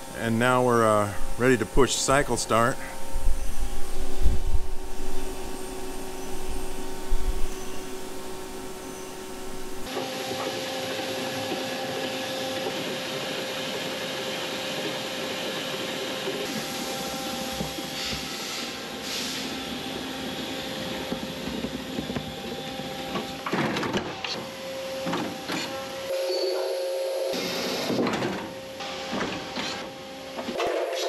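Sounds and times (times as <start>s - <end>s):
machine hum with constant tones: 0.0s - 31.0s.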